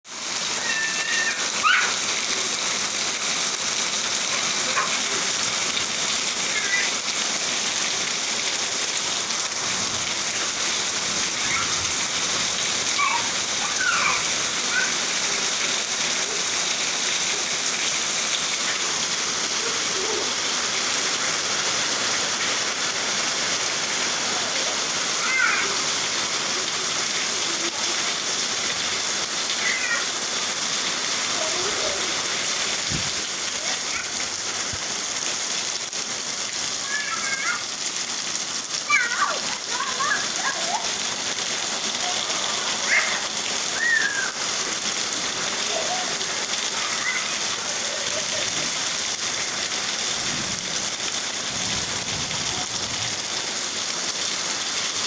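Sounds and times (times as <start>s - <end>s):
heavy rain on concrete: 0.0s - 55.0s.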